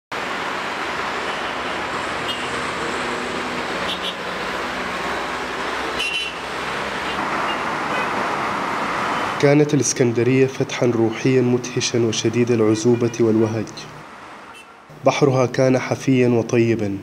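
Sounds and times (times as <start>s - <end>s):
passing cars hum: 0.1s - 15.6s.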